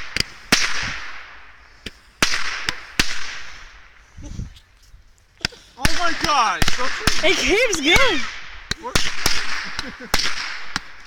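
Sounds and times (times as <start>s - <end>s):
firework bangs: 0.0s - 4.0s, 5.8s - 11.0s.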